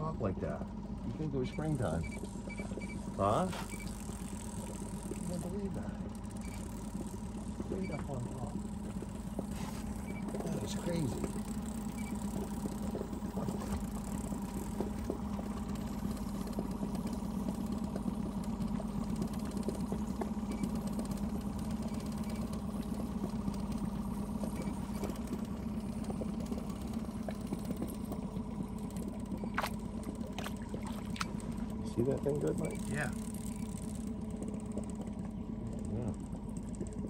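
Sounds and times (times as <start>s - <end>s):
outboard motor droning: 0.0s - 37.0s.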